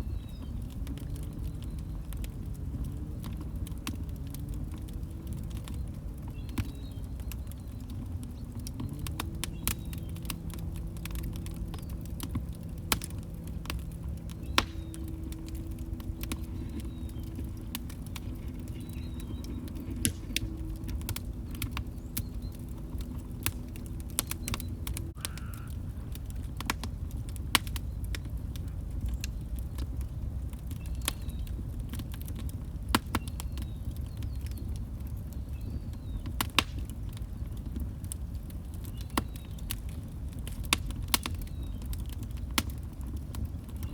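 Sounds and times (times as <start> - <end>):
log fire crackling and popping: 0.0 - 43.9.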